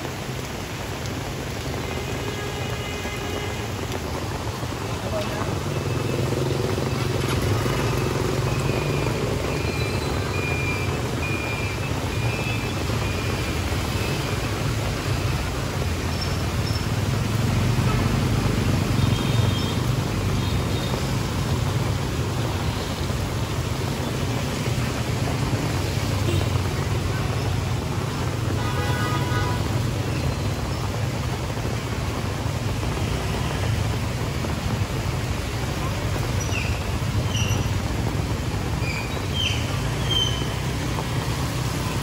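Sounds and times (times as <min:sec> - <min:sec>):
street traffic: 0:00.0 - 0:42.0.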